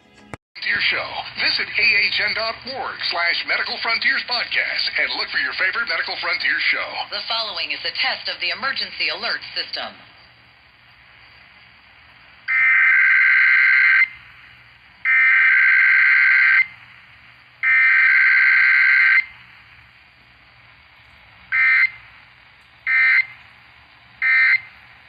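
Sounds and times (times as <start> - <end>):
buzzy digital data bursts: 1.4 - 25.0.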